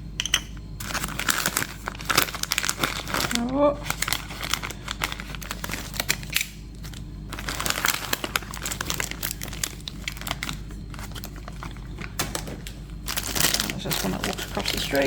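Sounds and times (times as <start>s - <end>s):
packaging crinkling and crackling: 0.8s - 15.0s.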